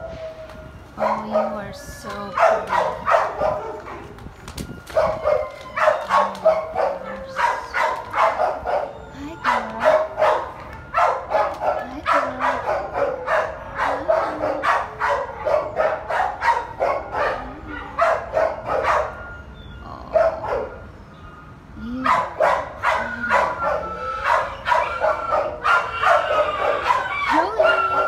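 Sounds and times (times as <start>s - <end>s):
dogs barking: 0.0s - 4.3s, 4.9s - 21.0s, 22.0s - 28.0s.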